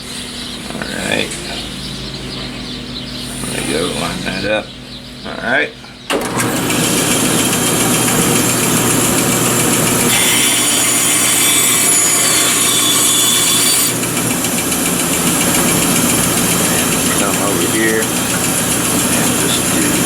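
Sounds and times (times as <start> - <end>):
electric saw cutting wood: 0.0 - 4.6, 6.1 - 20.0
harsh high whine: 0.0 - 20.0.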